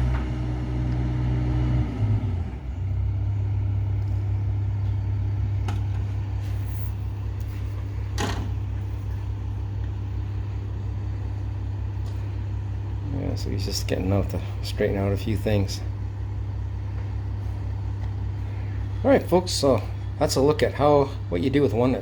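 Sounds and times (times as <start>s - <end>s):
excavator diesel engine idling: 0.0s - 22.0s.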